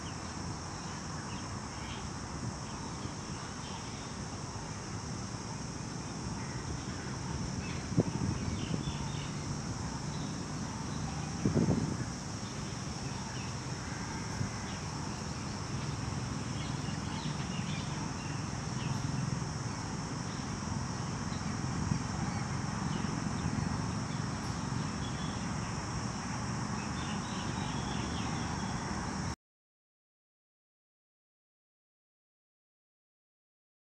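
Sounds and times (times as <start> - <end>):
high-pitched insect drone: 0.0 - 29.2.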